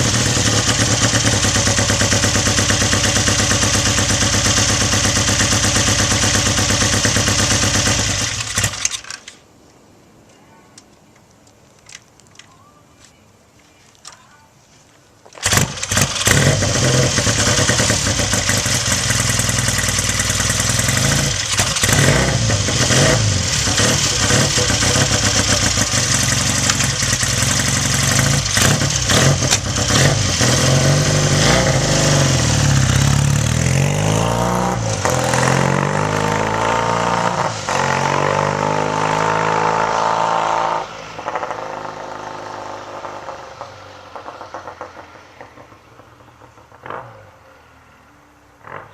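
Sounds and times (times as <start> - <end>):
motorcycle engine revving: 0.0 - 9.0, 15.4 - 47.4.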